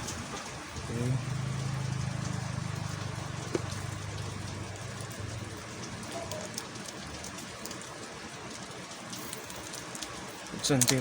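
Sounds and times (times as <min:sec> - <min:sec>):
steady rain-like hiss: 0:00.0 - 0:11.0.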